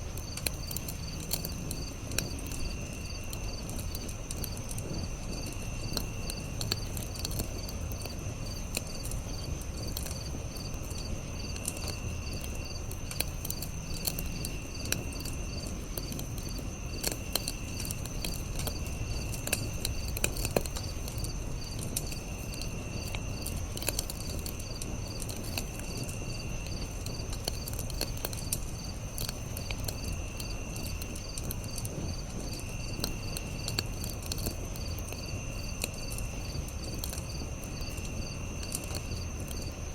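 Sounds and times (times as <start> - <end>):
campfire crackling and popping: 0.0 - 39.9
insects chirping: 0.0 - 39.9.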